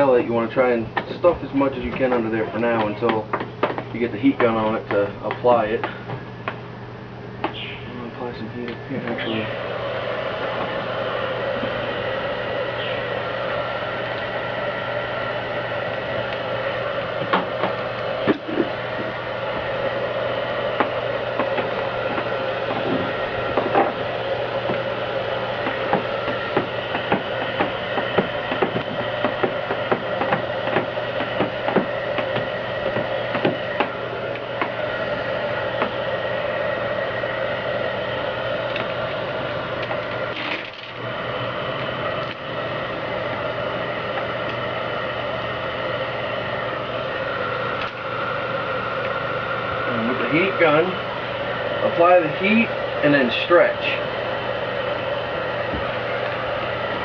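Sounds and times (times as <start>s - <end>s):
heat gun blowing: 8.7s - 57.0s.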